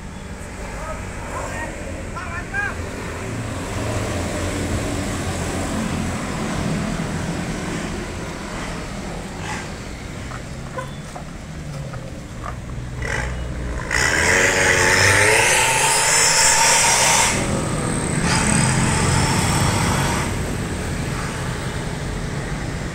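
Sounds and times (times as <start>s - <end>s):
street traffic: 0.0s - 22.9s.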